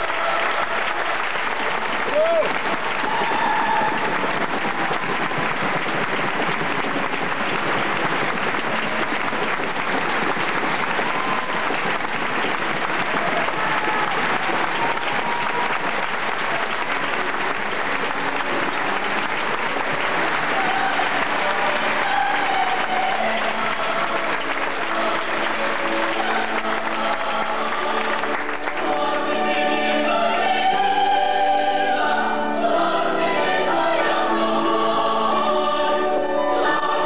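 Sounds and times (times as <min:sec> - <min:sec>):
audience applause: 0:00.0 - 0:32.0.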